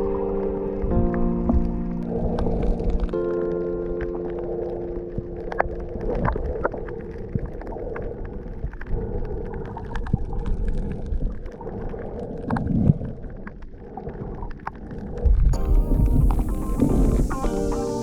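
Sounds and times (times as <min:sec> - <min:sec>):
underwater rumble: 0:00.0 - 0:18.0.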